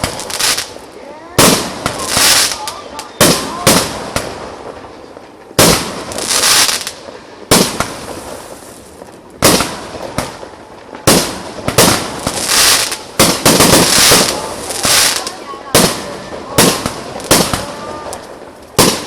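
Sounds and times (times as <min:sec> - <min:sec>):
crackling hiss: 0:00.0 - 0:19.0
fireworks bangs: 0:00.0 - 0:19.0.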